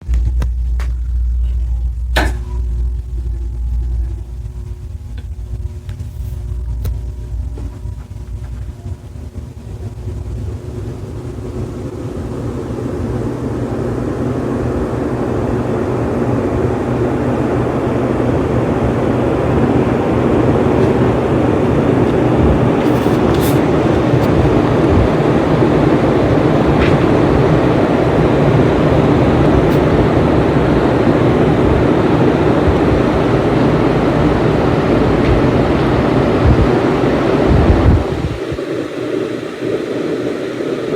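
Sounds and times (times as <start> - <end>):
ceiling fan air rush: 0.0 - 40.9
low motor hum: 0.0 - 40.9.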